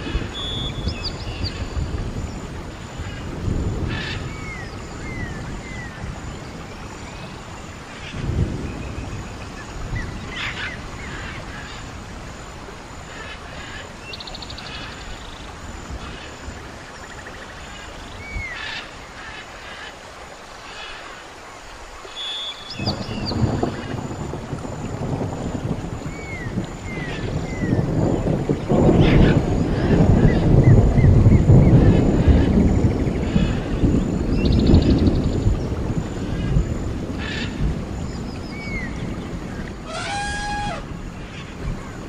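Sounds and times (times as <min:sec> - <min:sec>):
wind rumbling on microphone: 0:00.0 - 0:42.0.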